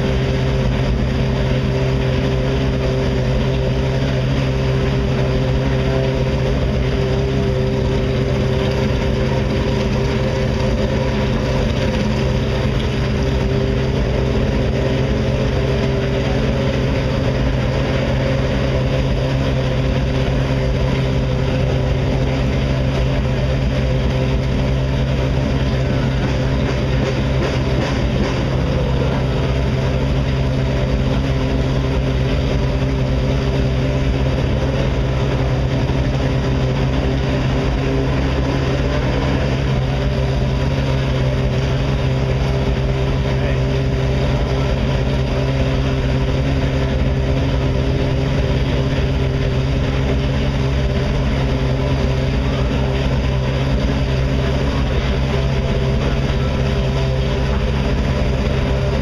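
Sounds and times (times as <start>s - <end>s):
race car engine idling: 0.0s - 59.0s.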